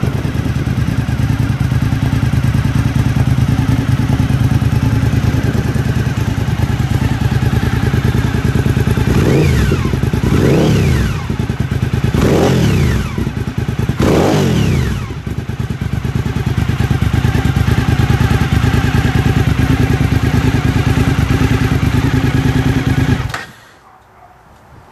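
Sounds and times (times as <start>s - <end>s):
motorcycle engine revving at idle: 0.0s - 23.8s.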